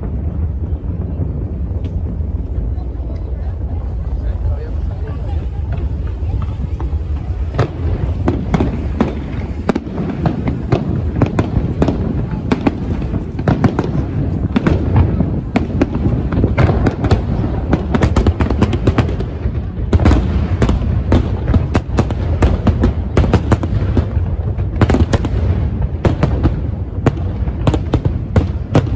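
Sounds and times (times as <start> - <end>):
fireworks bangs and crackles: 0.0 - 28.9
low rumble: 0.0 - 28.9.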